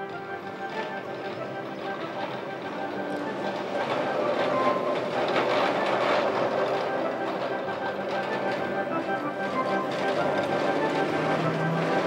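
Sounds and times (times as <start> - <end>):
background music: 0.0 - 12.0
tram wheels rumbling on rails: 0.0 - 12.0.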